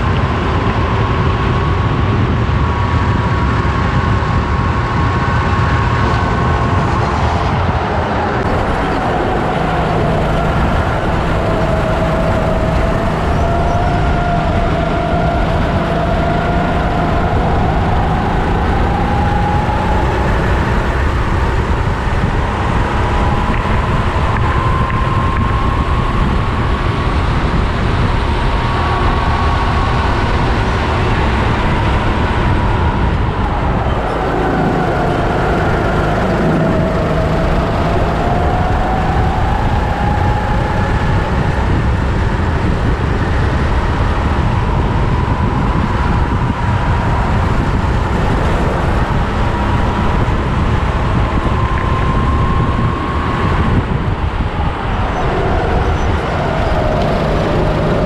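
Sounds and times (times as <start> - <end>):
kart engine running hard: 0.0 - 58.0
wind on microphone: 0.0 - 58.0.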